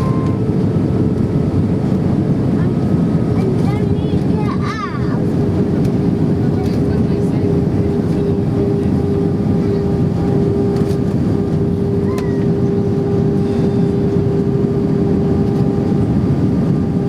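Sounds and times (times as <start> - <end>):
airplane cabin engine noise: 0.0 - 17.0
steady hum tone: 0.0 - 17.0.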